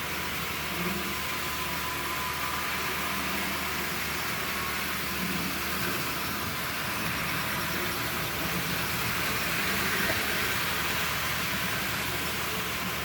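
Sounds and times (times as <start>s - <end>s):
model train motor whir: 0.0s - 13.0s
wheel and rail noise: 0.0s - 13.0s.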